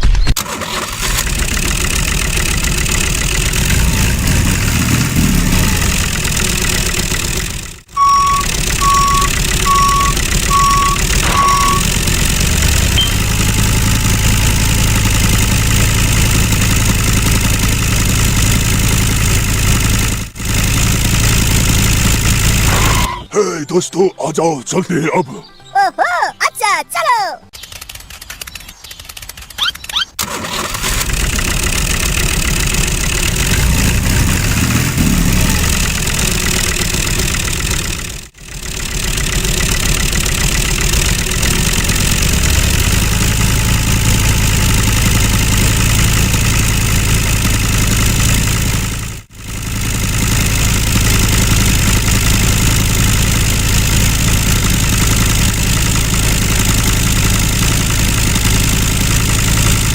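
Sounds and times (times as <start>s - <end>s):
mini tractor motor running: 0.4s - 23.2s, 27.6s - 59.9s.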